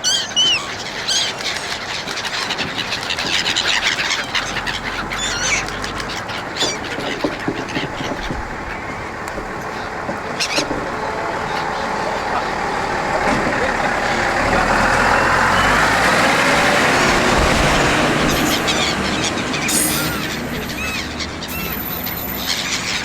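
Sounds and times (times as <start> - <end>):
gulls calling: 0.0 - 23.0
diesel railcar rumbling past: 3.7 - 23.0.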